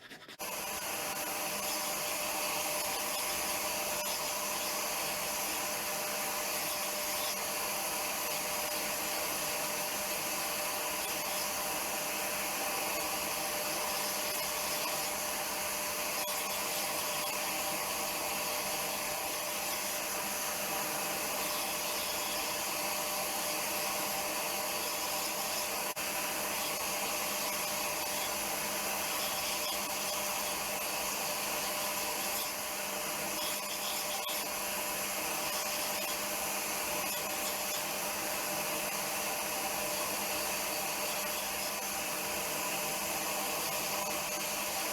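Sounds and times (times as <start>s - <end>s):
electric power tool sanding: 0.0s - 44.9s.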